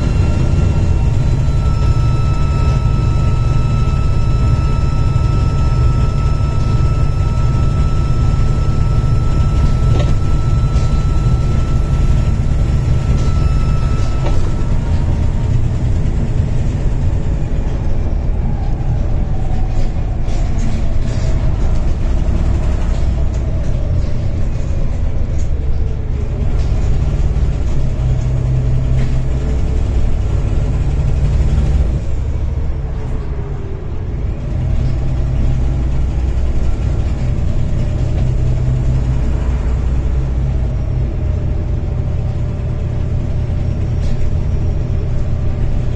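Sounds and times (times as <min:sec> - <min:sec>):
diesel bus engine rumbling: 0:00.0 - 0:45.9
high turbo whine: 0:00.0 - 0:45.9.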